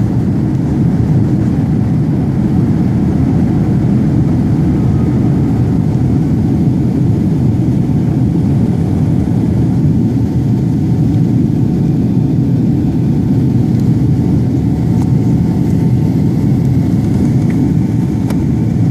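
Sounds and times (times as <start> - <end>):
airliner engines roaring: 0.0 - 18.9.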